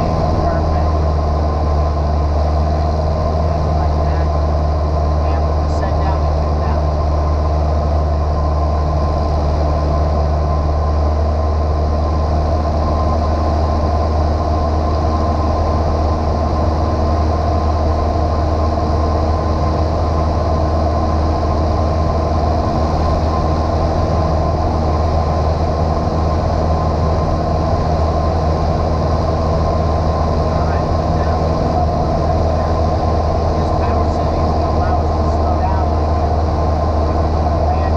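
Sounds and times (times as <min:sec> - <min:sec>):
airplane engine droning: 0:00.0 - 0:37.9.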